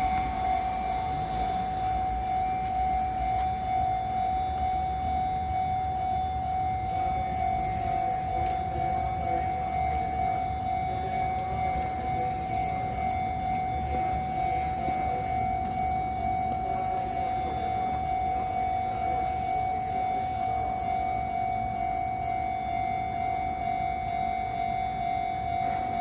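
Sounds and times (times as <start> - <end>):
level crossing warning alarm: 0.0 - 26.0.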